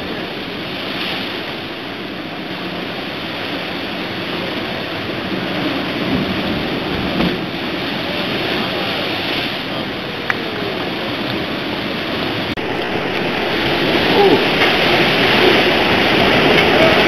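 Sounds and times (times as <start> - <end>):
waves breaking: 0.0 - 17.0
wind: 0.0 - 17.0.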